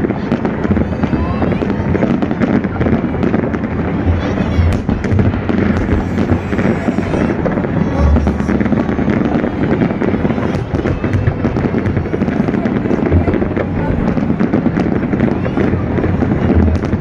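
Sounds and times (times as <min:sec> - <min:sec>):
deep firework booms: 0:00.0 - 0:17.0
fireworks bursting and crackling: 0:00.0 - 0:17.0.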